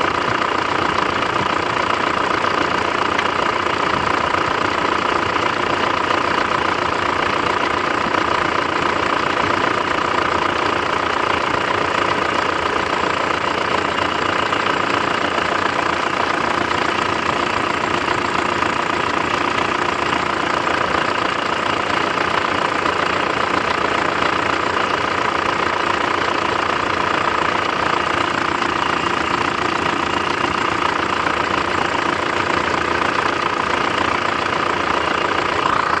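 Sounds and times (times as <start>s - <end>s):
diesel engine idling with knock: 0.0s - 36.0s.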